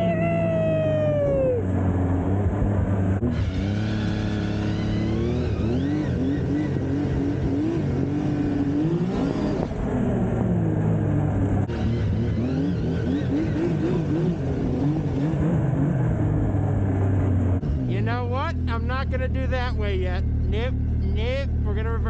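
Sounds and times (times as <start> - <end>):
snowmobile engine revving: 0.0 - 10.9, 11.7 - 16.5, 17.6 - 22.0.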